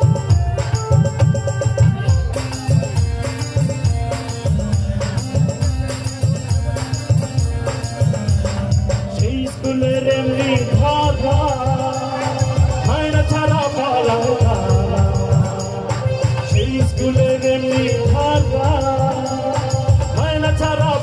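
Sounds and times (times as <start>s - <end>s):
hand-drum beat: 0.0s - 21.0s.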